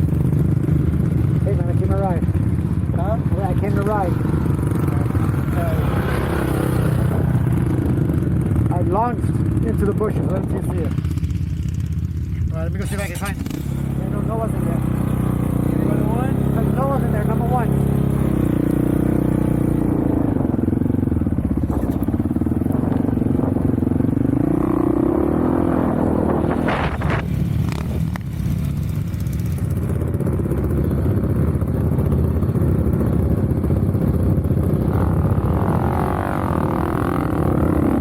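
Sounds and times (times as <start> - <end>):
off-road vehicle engine running: 0.0 - 38.0.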